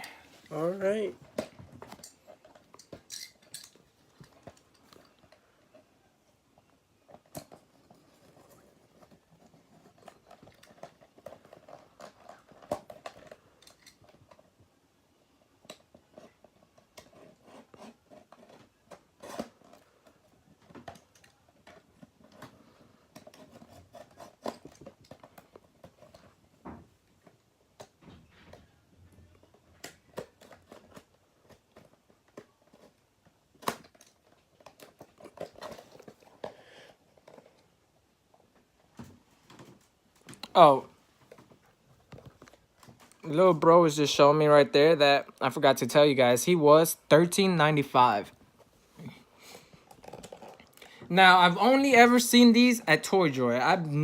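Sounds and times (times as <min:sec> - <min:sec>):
packaging handling clicks and rustles: 0:00.3 - 0:43.4, 0:48.3 - 0:52.5.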